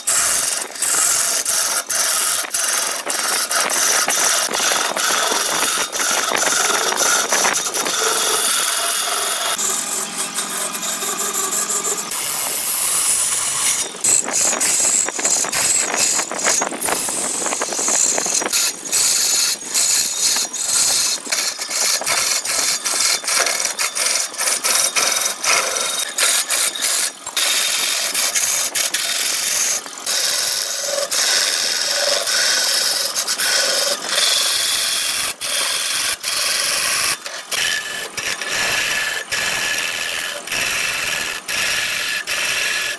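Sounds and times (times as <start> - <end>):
gouge rasping on spinning wood: 0.0 - 42.9
lathe motor running: 0.0 - 42.9.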